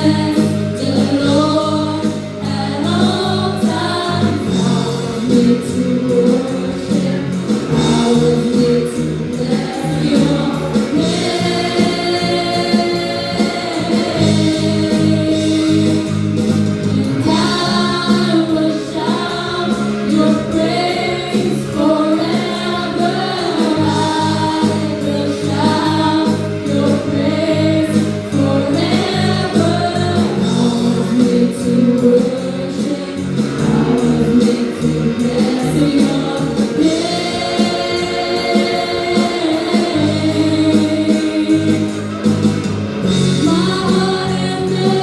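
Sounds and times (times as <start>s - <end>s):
band accompaniment: 0.0s - 45.0s
young voices singing together: 0.0s - 45.0s.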